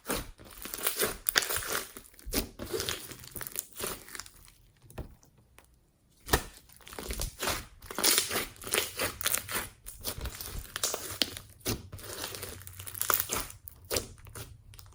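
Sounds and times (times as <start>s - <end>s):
slime squeezed crackling and popping: 0.0s - 4.6s, 6.2s - 14.9s.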